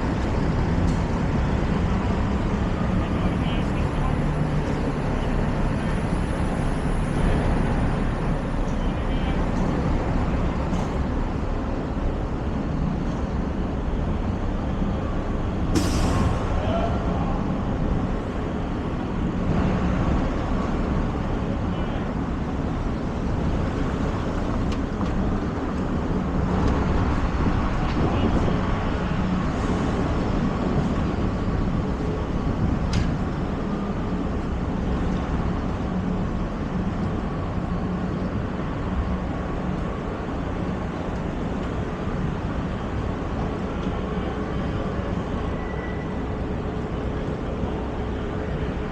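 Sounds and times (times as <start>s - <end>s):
traffic rumble: 0.0s - 48.9s.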